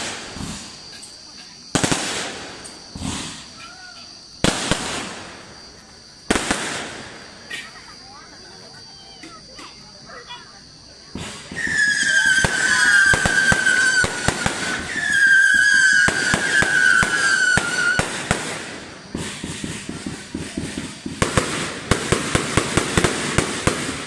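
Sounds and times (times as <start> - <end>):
firework bangs and pops: 0.0 - 7.9, 11.0 - 24.0
firework whistles: 0.0 - 8.2, 11.0 - 24.0
firework crackling: 0.0 - 9.5, 10.8 - 24.0.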